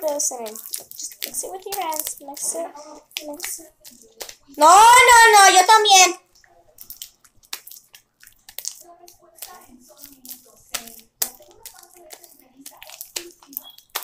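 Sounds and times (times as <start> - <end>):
slime crackling: 0.0 - 6.1, 6.8 - 14.0
slime squishing by hand: 0.0 - 6.1, 6.8 - 14.0.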